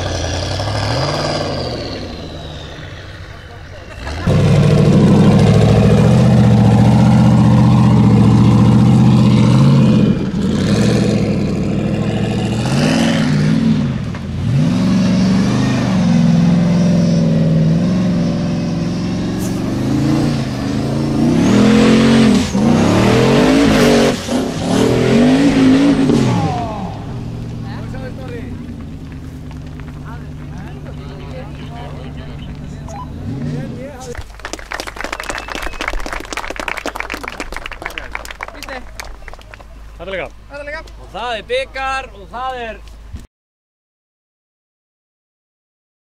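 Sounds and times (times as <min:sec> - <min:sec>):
buggy engine revving: 0:00.0 - 0:43.1.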